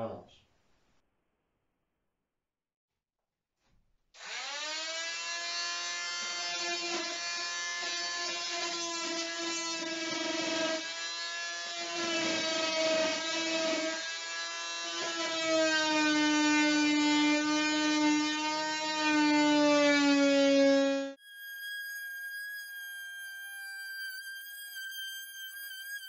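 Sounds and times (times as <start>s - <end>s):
power tool whining cutting wood: 4.2s - 26.0s.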